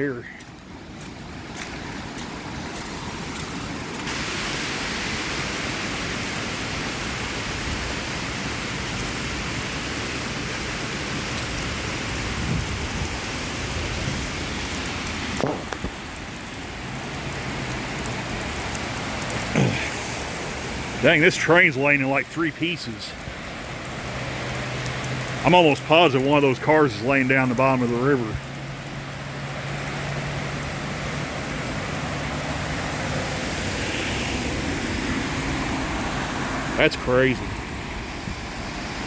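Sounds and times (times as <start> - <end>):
river rushing: 0.0 - 39.0.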